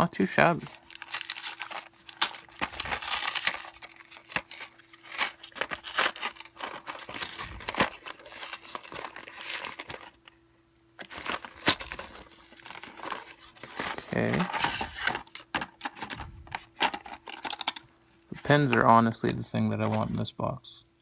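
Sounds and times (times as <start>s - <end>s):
plastic packaging crinkling and tearing: 0.0s - 10.4s, 11.0s - 18.6s.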